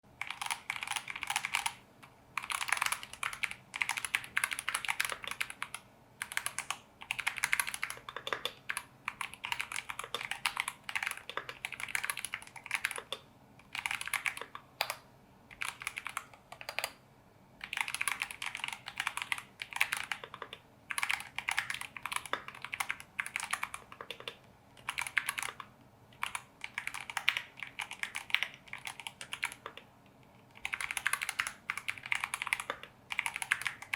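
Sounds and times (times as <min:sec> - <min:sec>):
mechanical keyboard typing: 0:00.1 - 0:01.8, 0:02.4 - 0:17.0, 0:17.6 - 0:33.9.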